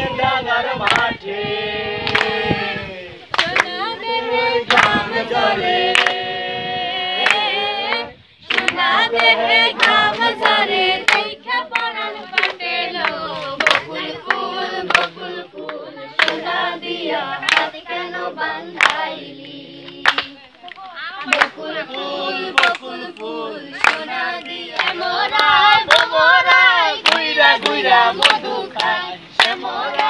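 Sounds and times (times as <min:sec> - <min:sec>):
group singing without instruments: 0:00.0 - 0:30.0
people clapping on the beat: 0:00.0 - 0:30.0.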